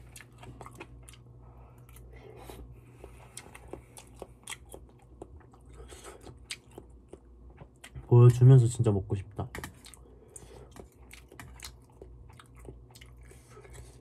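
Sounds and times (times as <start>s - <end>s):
person chewing: 0.0s - 8.1s, 9.6s - 14.0s
low steady hum: 0.0s - 14.0s.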